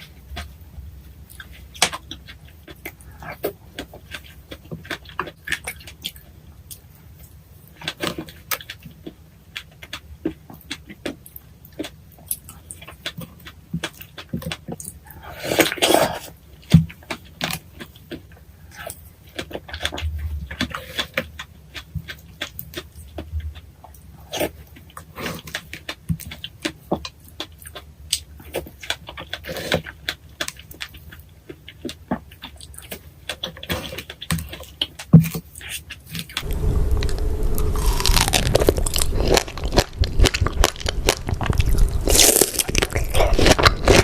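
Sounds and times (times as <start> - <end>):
wet chewing: 1.3 - 44.0.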